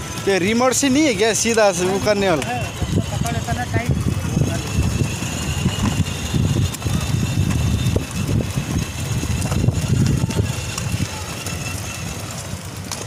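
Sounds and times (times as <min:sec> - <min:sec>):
toy car wheels rumbling on concrete: 0:00.0 - 0:13.0.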